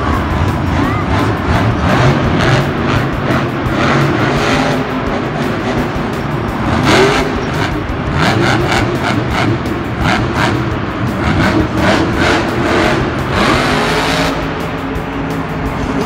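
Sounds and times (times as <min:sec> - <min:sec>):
monster truck engines revving: 0:00.0 - 0:16.0.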